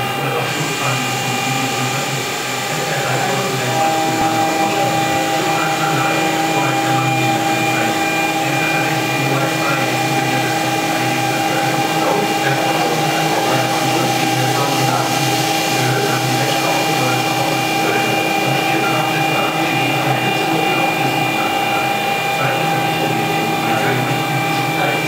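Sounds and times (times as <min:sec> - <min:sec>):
cutter cutting metal: 0:00.0 - 0:25.0
milling spindle whine: 0:00.0 - 0:25.0.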